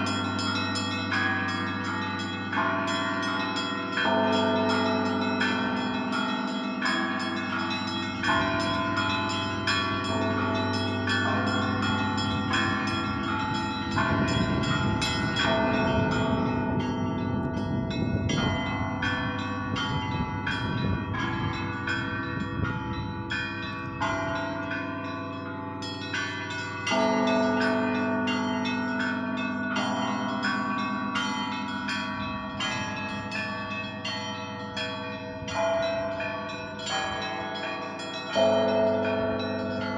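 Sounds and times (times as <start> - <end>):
deep bells humming: 0.0 - 39.9
small bells ringing rhythmically: 0.0 - 39.9.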